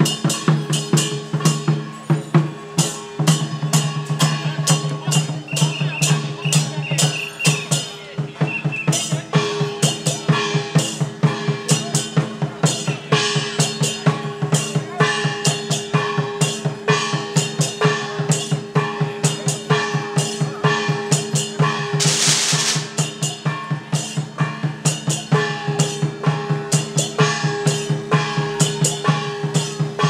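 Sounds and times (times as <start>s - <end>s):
drum and gong percussion: 0.0s - 30.0s.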